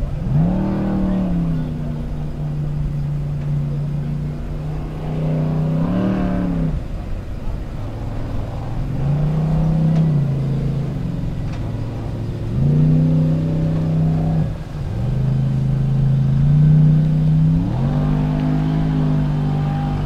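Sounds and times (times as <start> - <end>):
jeep engine revving: 0.0 - 20.0.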